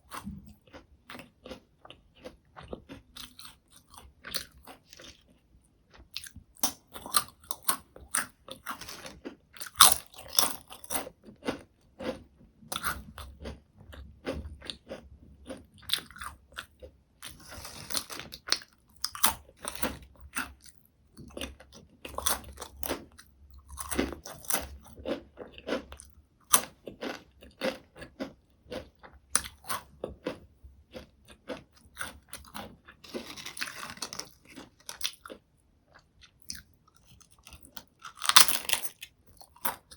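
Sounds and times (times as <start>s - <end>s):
potato chips crunching: 0.0s - 13.6s, 14.2s - 20.7s, 21.3s - 39.9s.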